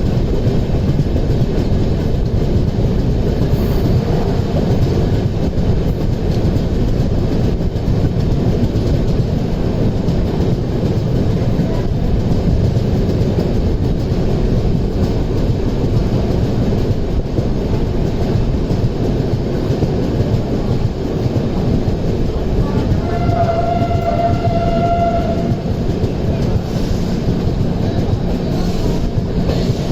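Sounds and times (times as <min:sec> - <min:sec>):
train wheels rumbling on rail: 0:00.0 - 0:29.9.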